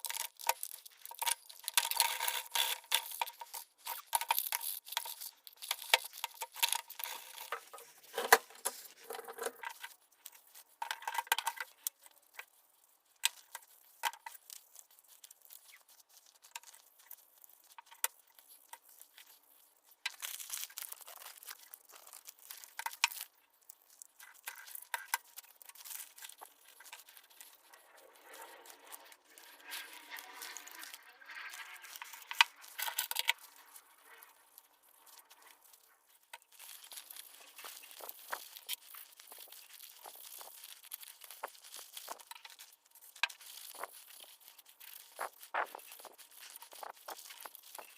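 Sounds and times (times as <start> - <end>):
clicks and knocks of small parts: 0.0 - 12.5, 13.2 - 19.4, 20.0 - 47.9
hands scraping and rustling: 0.0 - 47.9.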